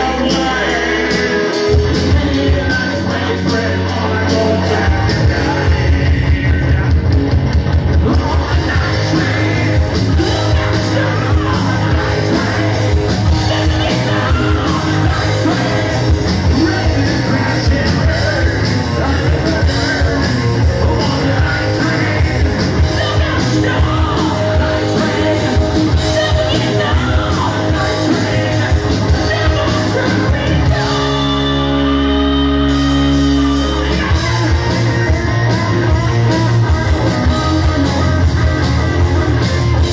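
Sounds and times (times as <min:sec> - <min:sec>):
live rock band playing: 0:00.0 - 0:39.9
person shouting rock vocals: 0:00.0 - 0:39.9.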